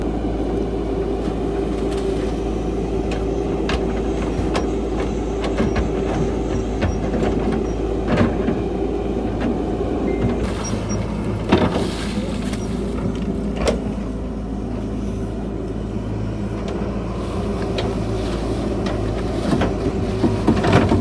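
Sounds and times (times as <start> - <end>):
excavator diesel engine running: 0.0 - 21.0
hydraulic whine: 0.0 - 21.0.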